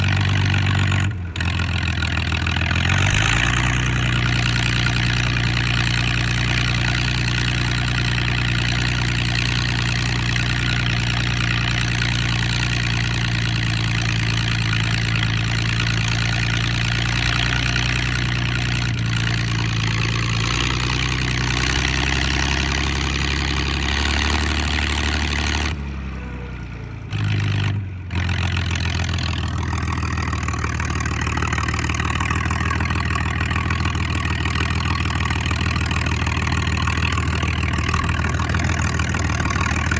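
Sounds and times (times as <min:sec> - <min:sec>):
tractor engine idling loud: 0:00.0 - 0:39.9.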